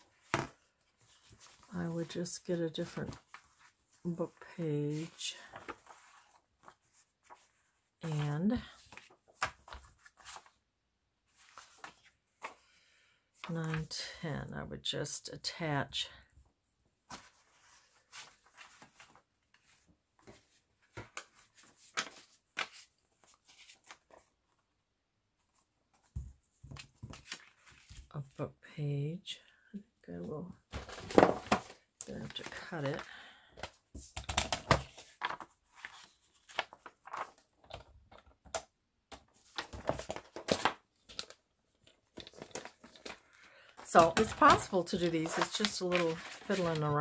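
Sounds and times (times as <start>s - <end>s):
paper pages rustling: 0.1s - 10.6s, 11.3s - 12.8s, 17.1s - 24.6s, 25.4s - 28.1s, 30.7s - 47.0s.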